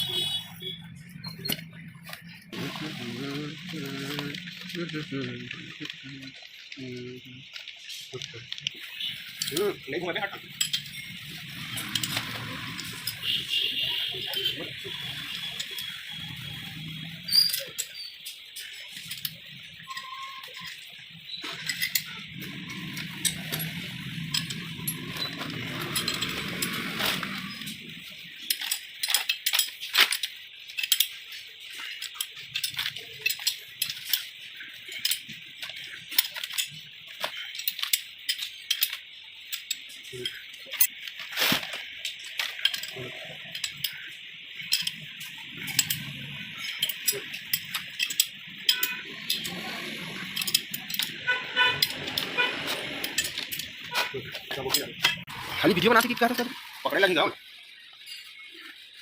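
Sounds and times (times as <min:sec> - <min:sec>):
small metal objects clinking: 0:00.0 - 0:59.0
steady hiss: 0:02.0 - 0:59.0.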